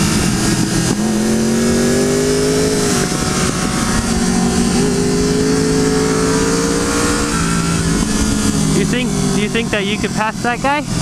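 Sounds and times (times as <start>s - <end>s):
heavy wind rush: 0.0s - 11.0s
motorcycle engine revving: 0.0s - 11.0s.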